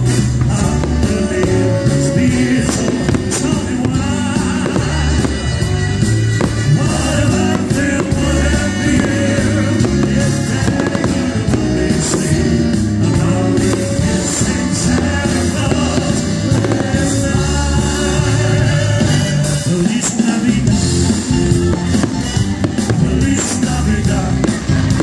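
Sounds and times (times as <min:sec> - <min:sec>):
fireworks bursting and crackling: 0:00.0 - 0:25.0
loud music with singing: 0:00.0 - 0:25.0.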